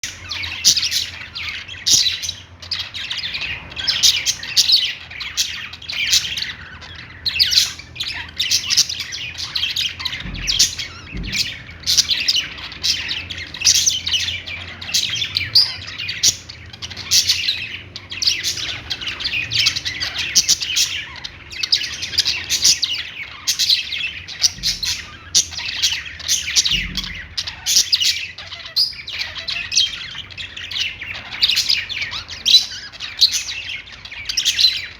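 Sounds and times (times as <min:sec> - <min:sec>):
budgies chirping and warbling: 0:00.0 - 0:34.9.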